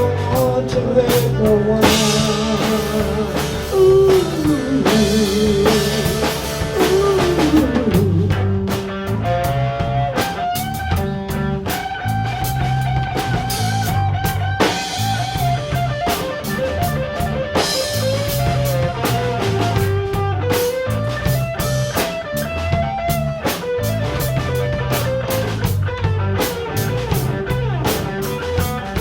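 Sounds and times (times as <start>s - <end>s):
bass guitar: 0.0s - 29.0s
drum kit beat: 0.0s - 29.0s
lead electric guitar: 0.0s - 29.0s.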